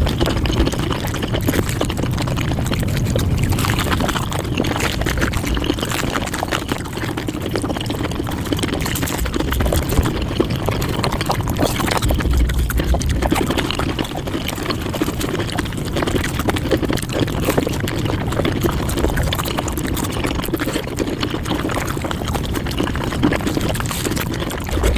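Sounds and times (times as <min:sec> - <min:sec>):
rapid chewing and mouth clicks: 0:00.0 - 0:24.9.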